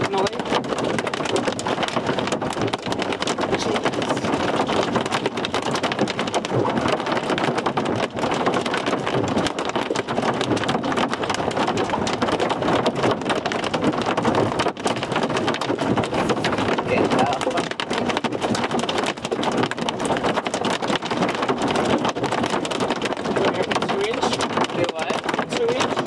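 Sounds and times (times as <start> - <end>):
hail pelting vehicle roof: 0.0 - 26.0.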